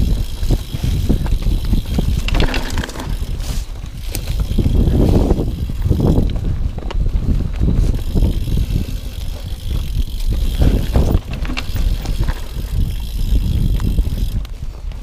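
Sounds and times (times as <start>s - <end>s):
tyres rumbling on dirt: 0.0s - 6.4s, 7.6s - 14.4s
bike clicks and rattles: 0.0s - 15.0s.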